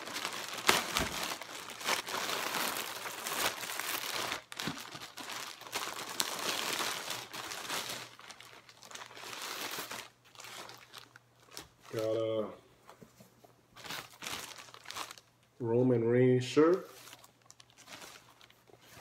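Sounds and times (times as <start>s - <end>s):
plastic packaging crinkling: 0.0s - 12.3s, 13.8s - 15.5s, 16.9s - 19.0s.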